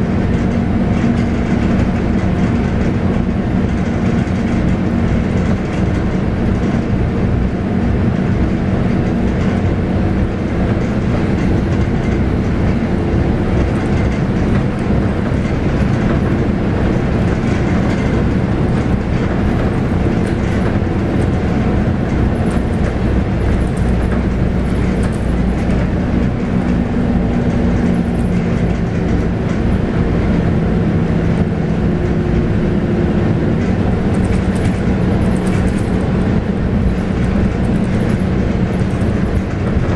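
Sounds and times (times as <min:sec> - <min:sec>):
bus diesel engine running: 0:00.0 - 0:39.9
road noise: 0:00.0 - 0:39.9.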